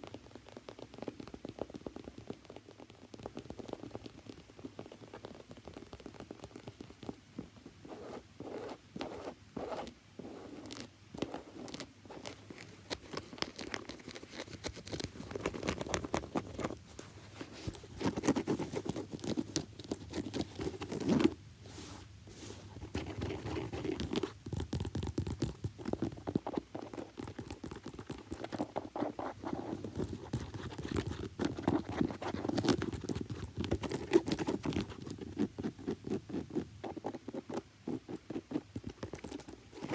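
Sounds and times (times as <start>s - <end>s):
tapping and scratching on a shoe: 0.0s - 21.4s, 22.3s - 39.9s.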